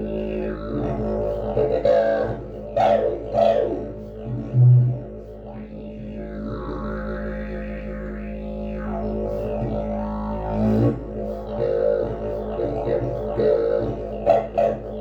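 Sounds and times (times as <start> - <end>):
didgeridoo low drone: 0.0 - 15.0.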